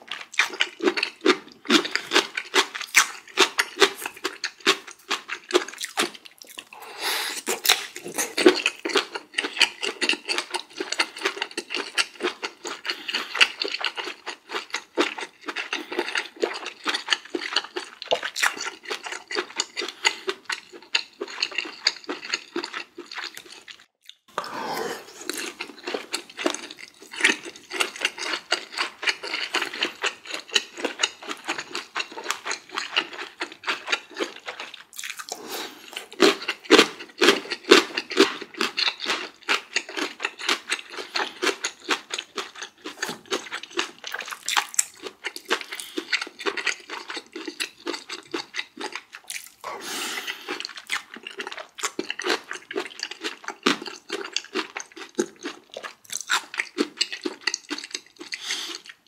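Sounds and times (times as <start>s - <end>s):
close-miked chewing and crunching: 0.0s - 59.0s.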